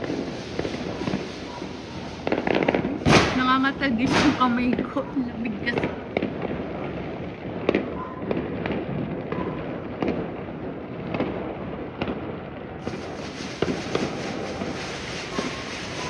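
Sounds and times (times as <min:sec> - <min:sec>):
firecrackers crackling: 0:00.0 - 0:16.0
fireworks bangs: 0:00.0 - 0:16.0.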